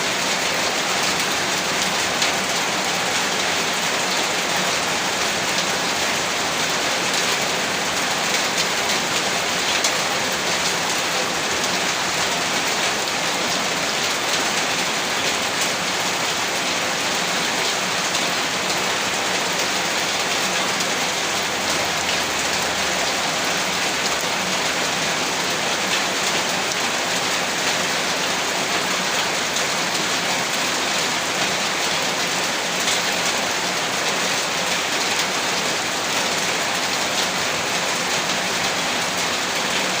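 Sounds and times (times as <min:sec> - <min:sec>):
heavy rain on a roof: 0:00.0 - 0:40.0.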